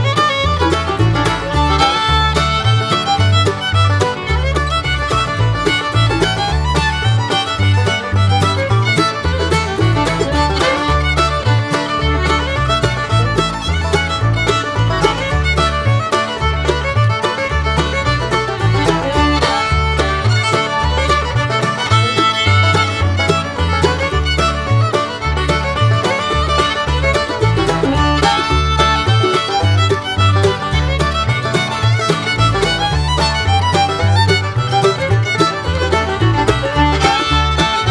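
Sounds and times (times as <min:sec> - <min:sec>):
upbeat bluegrass tune with fiddle: 0:00.0 - 0:37.9.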